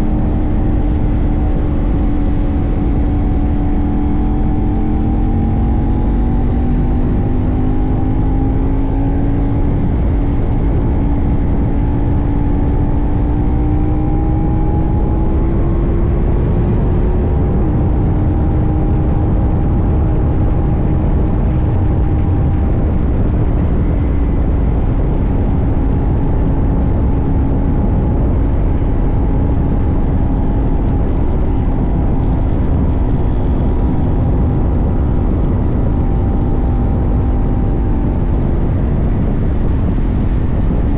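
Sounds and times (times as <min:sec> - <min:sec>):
heavy wind rumble on microphone: 0:00.0 - 0:40.9
motorcycle engine accelerating: 0:00.0 - 0:40.9.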